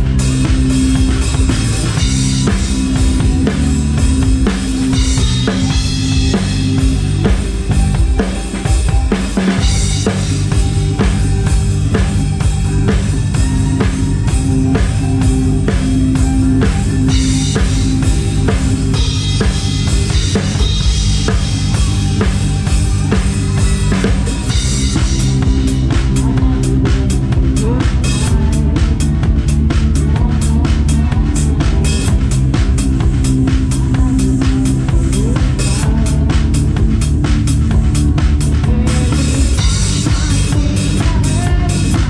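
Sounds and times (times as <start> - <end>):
drum kit steady beat: 0.0 - 42.0
sustained bass notes: 0.0 - 42.0.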